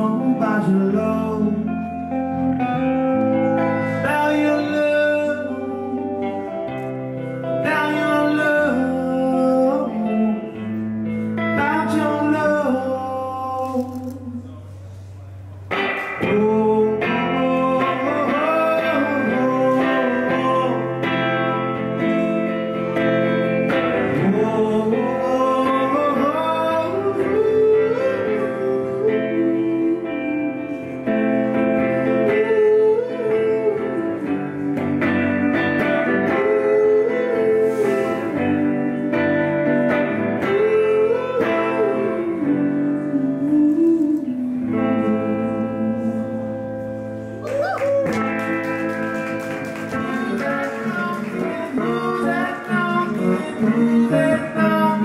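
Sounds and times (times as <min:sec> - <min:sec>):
man singing wordless melody: 0:00.0 - 0:06.6, 0:07.3 - 0:14.8, 0:16.2 - 0:22.3, 0:23.8 - 0:31.0, 0:32.0 - 0:39.1, 0:40.1 - 0:46.8, 0:50.0 - 0:55.0
guitar strumming: 0:00.0 - 0:14.4, 0:15.6 - 0:55.0.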